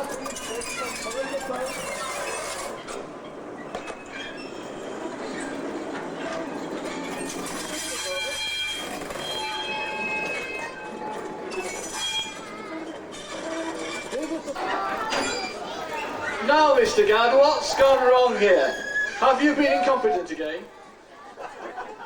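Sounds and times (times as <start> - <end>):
high wheel squeals: 0.0 - 20.2
goods wagons banging together: 0.0 - 20.4.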